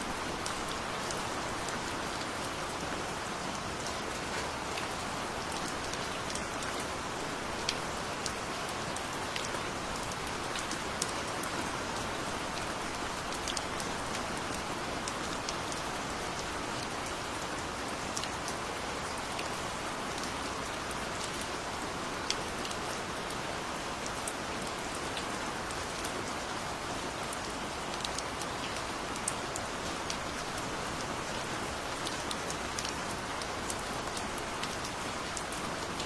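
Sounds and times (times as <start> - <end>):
rain falling: 0.0 - 36.0.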